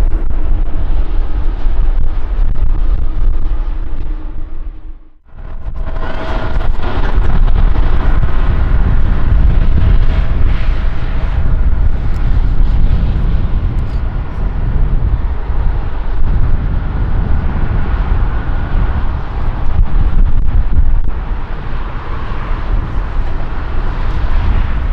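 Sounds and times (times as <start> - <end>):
faint engine whine: 0.0 - 24.9
jet engines rumbling: 0.0 - 24.9.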